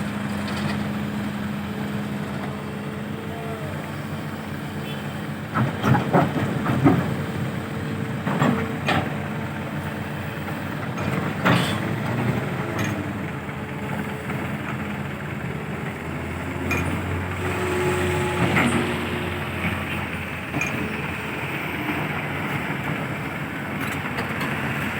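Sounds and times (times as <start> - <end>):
diesel engines running: 0.0 - 24.9.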